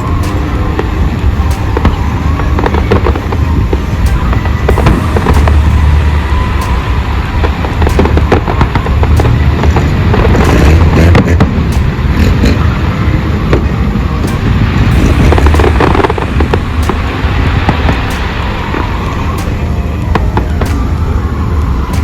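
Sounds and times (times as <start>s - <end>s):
deep rumble: 0.0s - 22.0s
fireworks cracking and banging: 0.0s - 22.0s.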